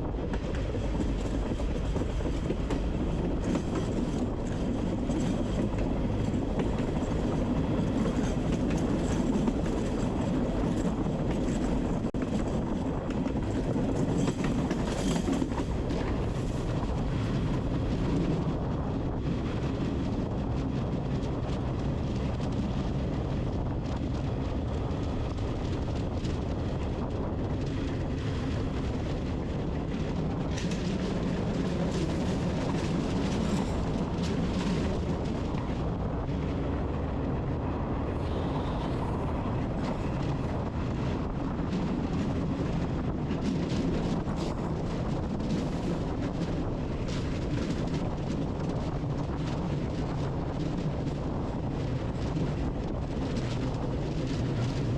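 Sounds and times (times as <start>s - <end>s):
train rumbling on tracks: 0.0s - 54.9s.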